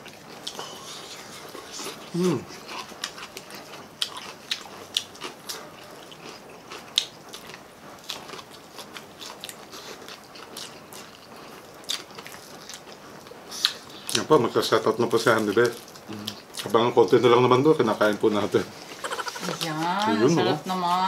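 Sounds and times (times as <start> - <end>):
crunching and chewing food: 0.0 - 20.2.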